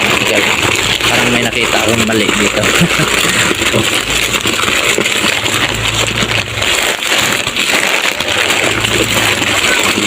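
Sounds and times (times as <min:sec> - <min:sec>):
plastic packets crinkling: 0:00.0 - 0:10.0.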